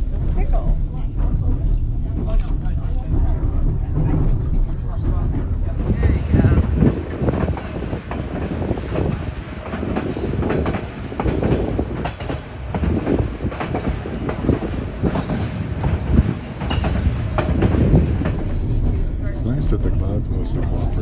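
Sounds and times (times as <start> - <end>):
train rumbling: 0.0 - 21.0
wheels clacking on rails: 0.0 - 21.0.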